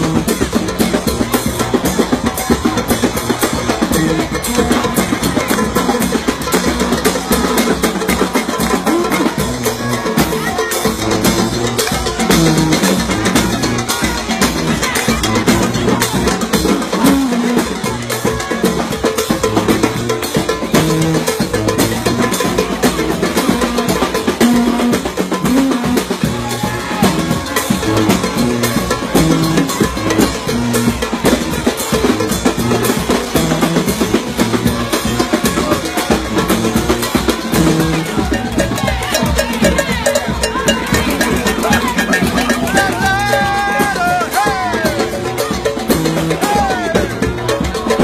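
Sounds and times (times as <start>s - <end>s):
brass band playing: 0.0s - 48.0s
snare and bass drums: 0.0s - 48.0s
sousaphone bass line: 0.0s - 48.0s.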